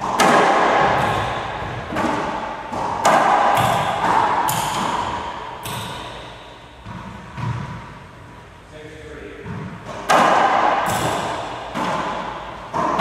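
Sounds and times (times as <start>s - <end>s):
ball cracking off racquets and walls: 0.0s - 8.0s, 9.4s - 13.0s.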